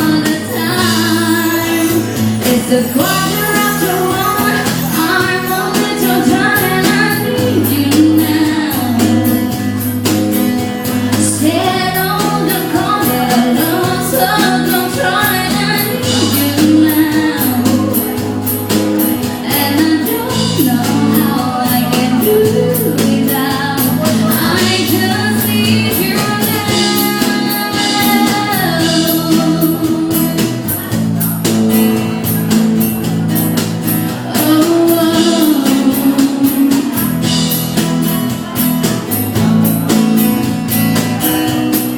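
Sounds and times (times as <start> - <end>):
person singing: 0.0 - 9.8, 10.9 - 32.4, 33.8 - 37.6
drums keeping a beat: 0.0 - 41.9
ska band playing live: 0.0 - 41.9.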